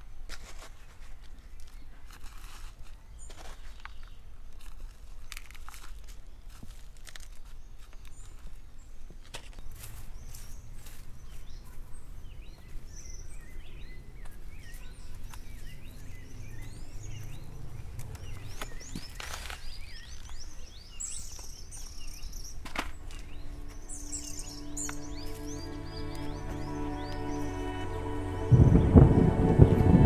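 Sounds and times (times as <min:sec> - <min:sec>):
low outdoor background noise: 0:00.0 - 0:30.0
small birds chirping: 0:00.7 - 0:29.9.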